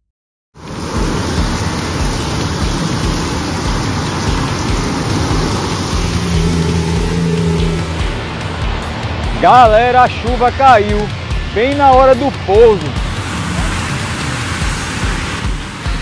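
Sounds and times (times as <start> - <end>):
heavy rain pouring: 0.6 - 16.0.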